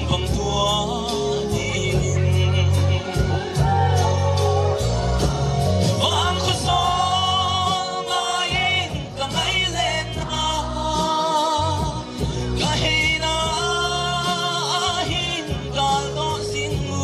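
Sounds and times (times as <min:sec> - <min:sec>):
amplified backing music: 0:00.0 - 0:17.0
man singing into a microphone: 0:00.0 - 0:17.0.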